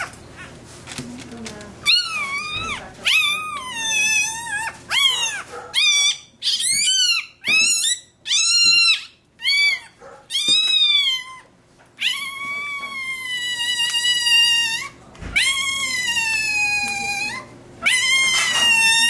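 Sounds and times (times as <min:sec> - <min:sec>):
puppy crying in high-pitched wails: 0:01.8 - 0:19.0.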